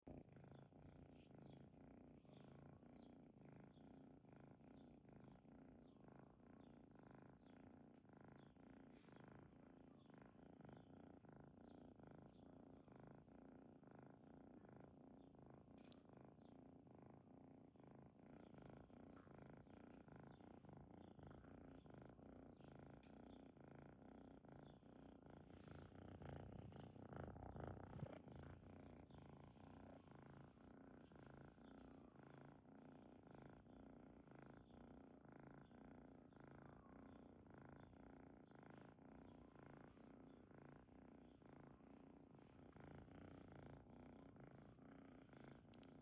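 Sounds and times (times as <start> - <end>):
cat purring: 0.0 - 46.0.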